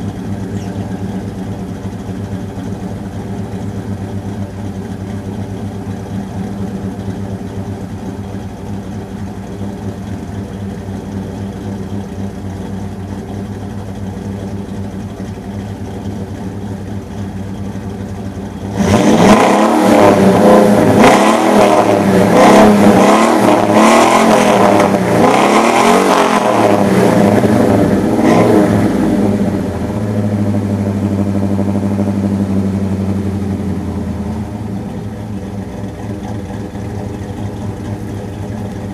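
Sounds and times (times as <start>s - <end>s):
vee-eight engine idling and revving: 0.0s - 38.9s.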